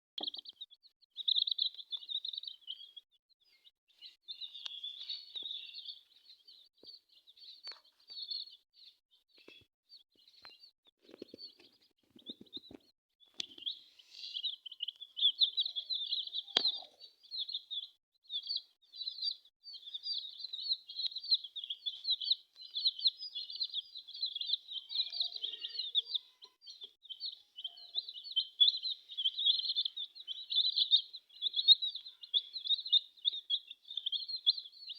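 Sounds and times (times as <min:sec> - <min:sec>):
baby chicks cheeping: 0:00.2 - 0:34.9.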